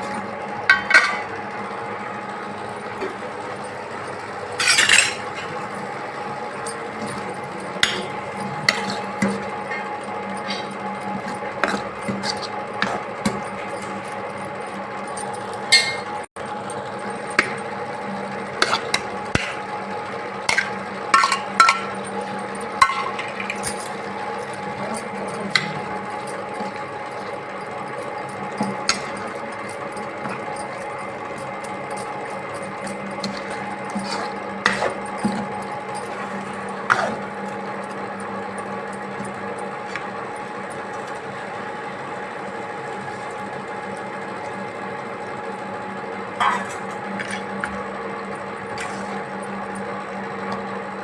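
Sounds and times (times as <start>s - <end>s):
utensils clinking against dishes: 0.0s - 1.4s, 2.7s - 17.8s, 18.4s - 19.7s, 20.4s - 41.3s, 46.4s - 49.9s
steady low hum: 0.0s - 44.0s.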